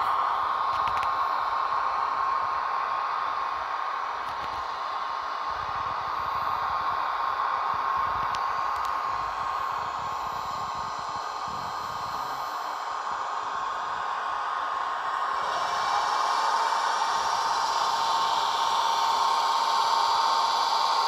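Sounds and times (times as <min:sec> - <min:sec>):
high whine: 0:00.0 - 0:21.0
hiss of blowers: 0:00.0 - 0:21.0.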